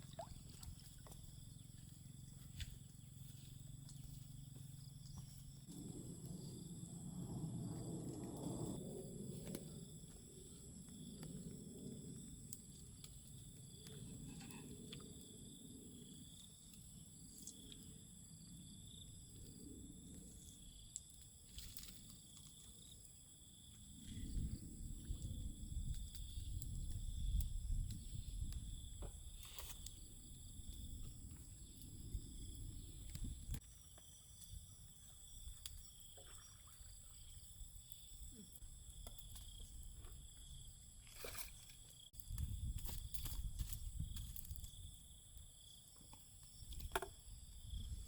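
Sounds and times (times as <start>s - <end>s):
insects chirring: 0.1s - 48.0s.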